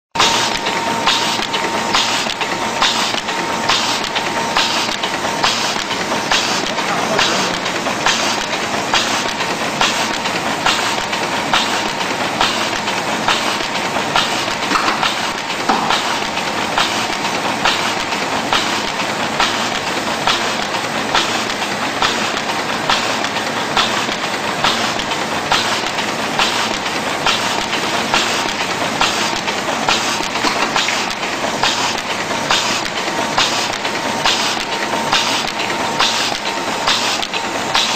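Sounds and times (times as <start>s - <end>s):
printing press clattering: 0.2s - 37.9s
sharp machine clack: 0.2s - 37.9s.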